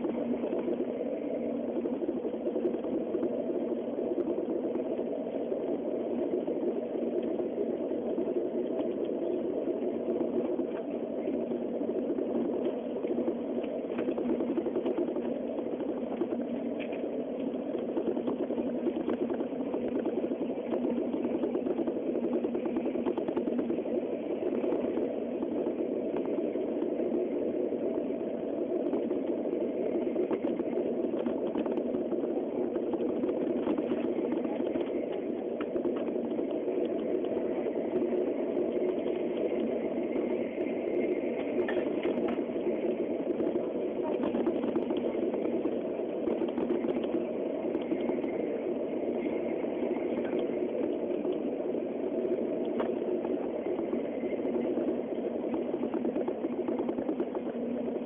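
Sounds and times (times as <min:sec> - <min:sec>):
train running at speed: 0:00.0 - 0:58.0
faint ticks and rattles: 0:01.6 - 0:58.0.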